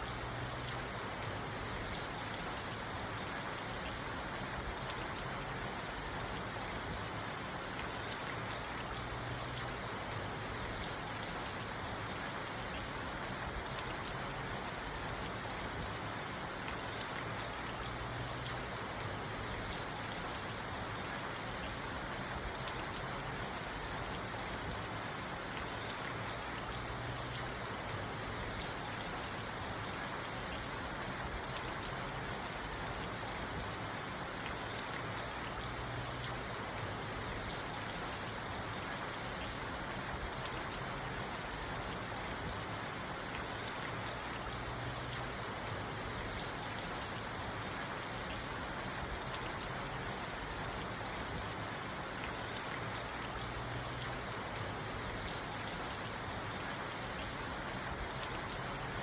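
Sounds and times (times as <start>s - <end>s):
rain drumming on a car roof: 0.0s - 59.0s.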